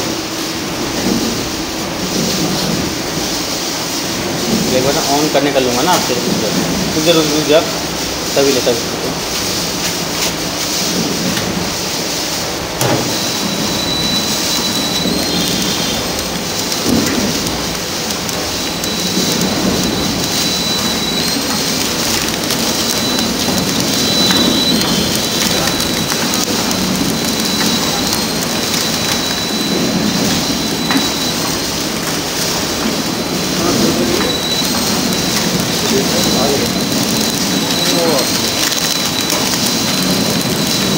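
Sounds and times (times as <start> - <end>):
packing machine running: 0.0 - 40.9.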